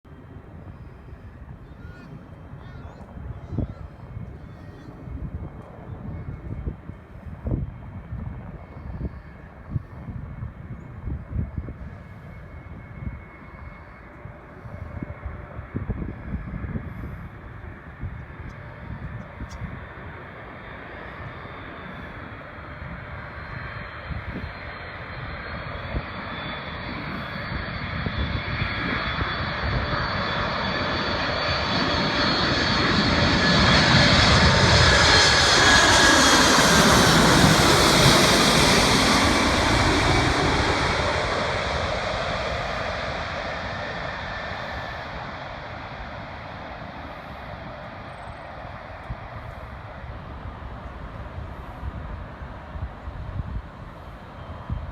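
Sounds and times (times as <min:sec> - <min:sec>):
jet airliner passing by: 0:00.1 - 0:54.9.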